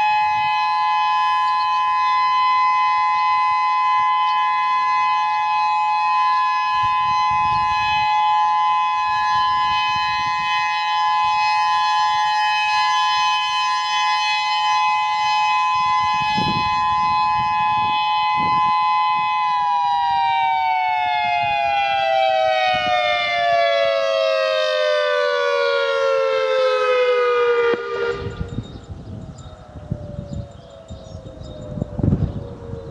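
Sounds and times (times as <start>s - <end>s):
two-note warning siren: 0.0s - 32.9s.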